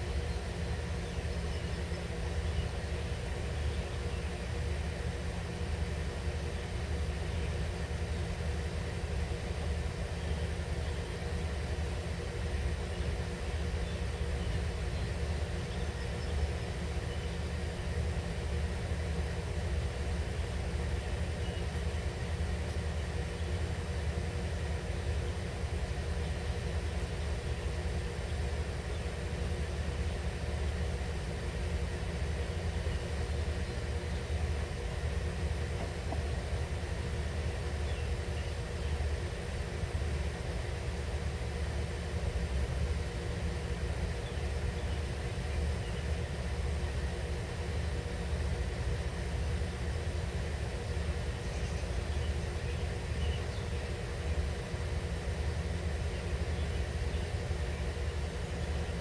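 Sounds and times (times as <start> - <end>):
faint steady hum: 0.0 - 59.0
low outdoor rumble: 0.0 - 59.0.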